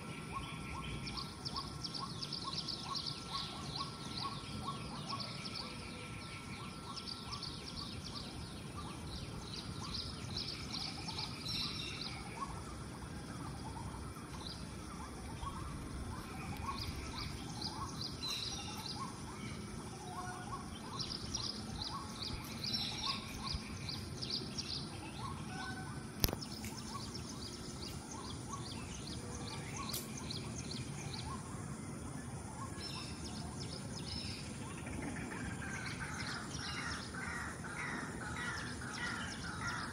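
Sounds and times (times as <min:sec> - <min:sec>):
birds chirping: 0:00.0 - 0:39.9
outdoor background noise: 0:00.0 - 0:39.9.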